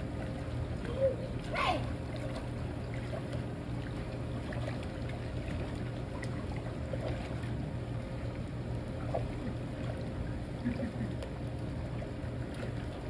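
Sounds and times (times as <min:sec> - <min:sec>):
pool water lapping and trickling: 0:00.0 - 0:13.0
small water splashes: 0:00.0 - 0:13.0
steady low hum: 0:00.0 - 0:13.0.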